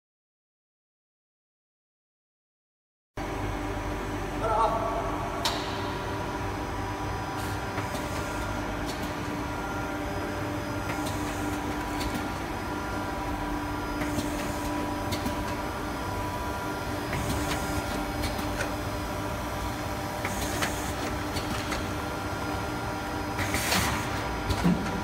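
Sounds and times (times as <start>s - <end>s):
machine humming with held tone: 3.2s - 23.4s.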